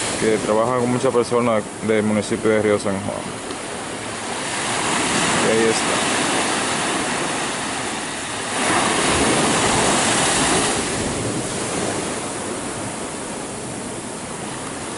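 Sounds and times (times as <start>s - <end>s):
surf washing onto beach: 0.0s - 14.9s.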